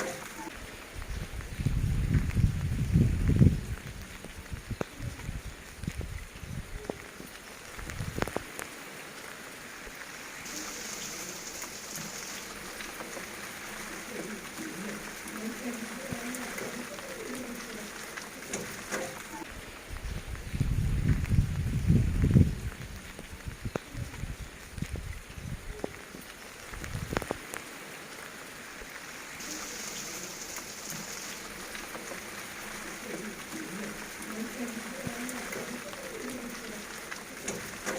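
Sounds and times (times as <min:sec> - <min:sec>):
heavy rain hissing: 0:00.0 - 0:37.9
raindrop clicks: 0:00.0 - 0:37.9.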